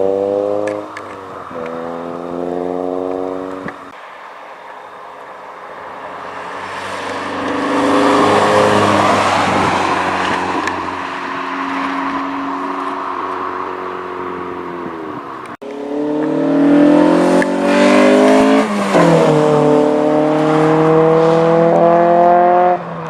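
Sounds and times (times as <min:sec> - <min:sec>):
car engine revving: 0:00.0 - 0:03.9, 0:06.0 - 0:23.0
exhaust rush: 0:00.0 - 0:23.0.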